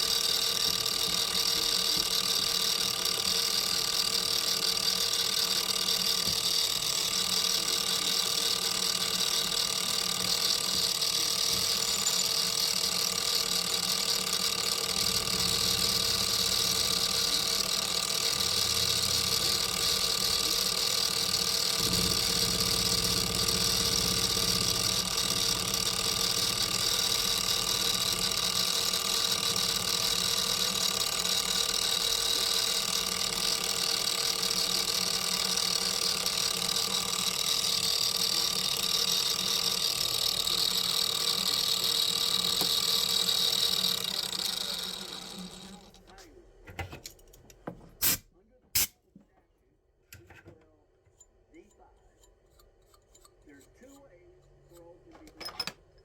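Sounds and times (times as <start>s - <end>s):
machine humming and hissing: 0.0s - 46.0s.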